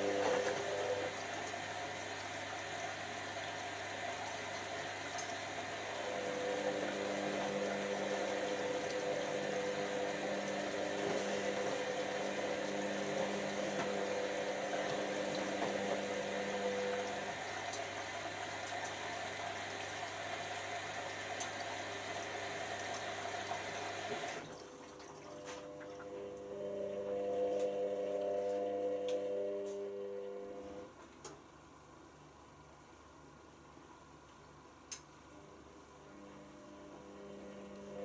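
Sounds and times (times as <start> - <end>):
water rushing in washing machine: 0.0 - 31.0, 35.8 - 38.0
washing machine hum: 0.0 - 38.0.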